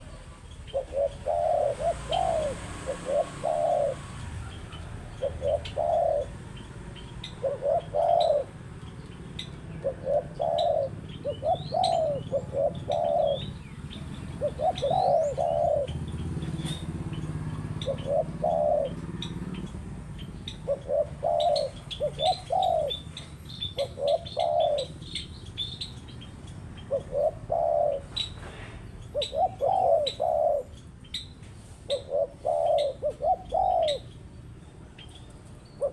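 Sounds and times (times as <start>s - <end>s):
dove cooing: 0.0s - 26.0s, 26.8s - 30.9s, 31.6s - 34.3s.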